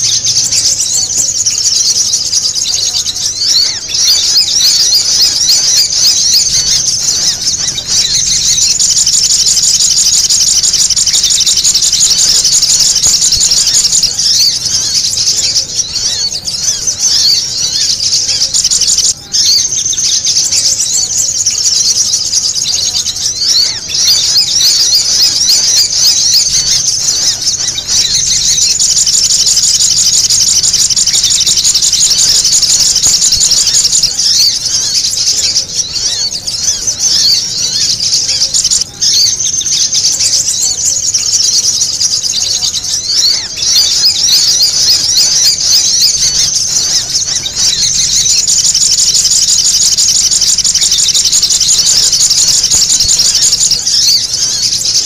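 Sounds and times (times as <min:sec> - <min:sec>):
chorus of birds chirping: 0:00.0 - 0:55.0.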